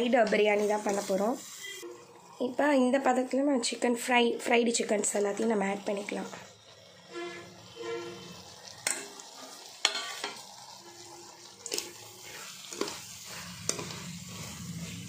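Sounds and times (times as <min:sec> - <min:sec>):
low sizzle: 0:00.0 - 0:15.0.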